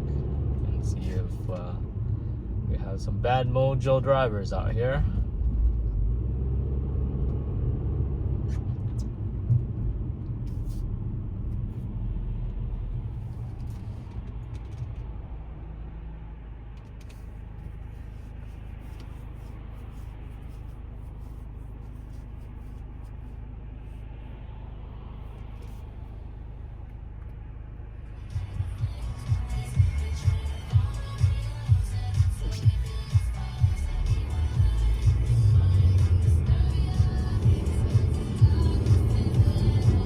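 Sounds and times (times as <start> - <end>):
engine and tyre rumble: 0.0 - 40.0.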